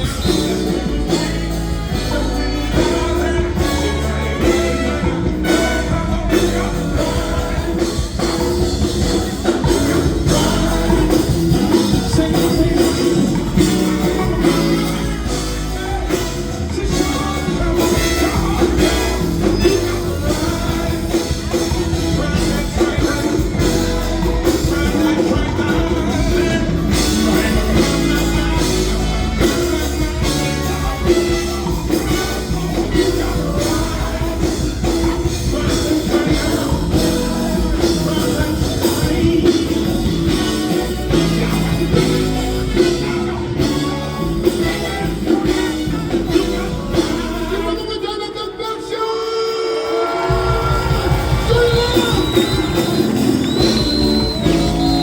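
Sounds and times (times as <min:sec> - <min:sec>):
live funk band: 0:00.0 - 0:55.0
person singing: 0:00.0 - 0:55.0.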